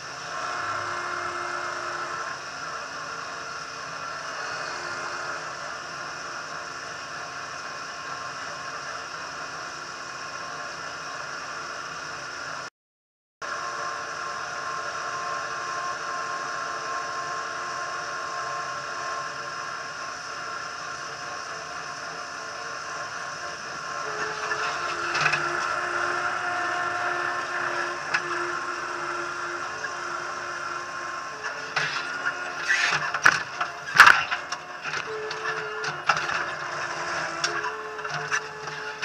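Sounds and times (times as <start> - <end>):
loader engine running: 0.0 - 12.7, 13.4 - 39.0.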